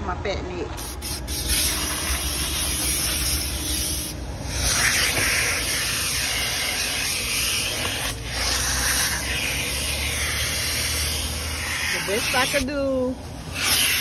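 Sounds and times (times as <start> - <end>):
nozzle scraping carpet: 0.8 - 14.0
vacuum hose sucking: 0.8 - 14.0.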